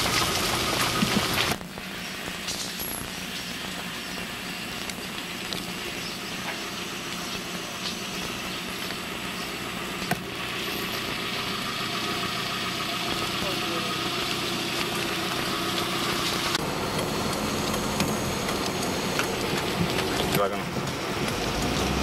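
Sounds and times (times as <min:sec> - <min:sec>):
constant hiss: 0:00.0 - 0:22.0
engine running: 0:00.0 - 0:22.0.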